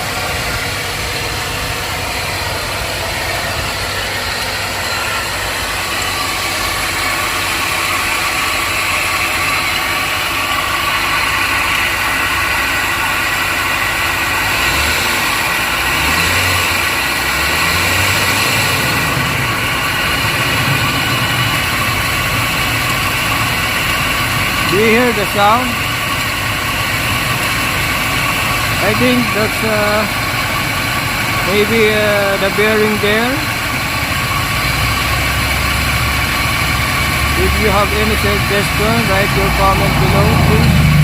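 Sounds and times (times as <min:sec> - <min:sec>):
grinding whine: 0:00.0 - 0:41.0
truck engine idling: 0:00.0 - 0:41.0.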